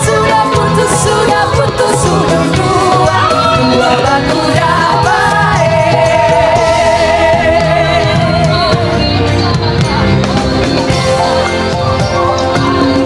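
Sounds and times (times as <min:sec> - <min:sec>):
female vocal group singing: 0:00.0 - 0:11.6
band accompaniment: 0:00.0 - 0:13.0.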